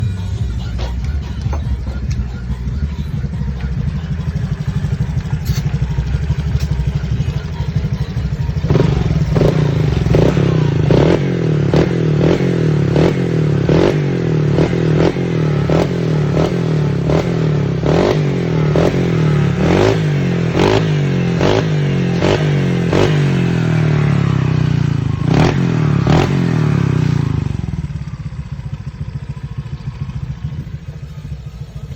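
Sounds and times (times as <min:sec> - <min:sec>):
scooter engine revving: 0:00.0 - 0:31.9.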